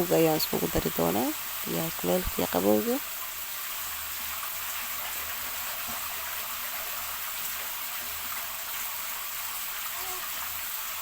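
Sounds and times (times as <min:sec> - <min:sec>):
water pouring: 0:00.0 - 0:11.0.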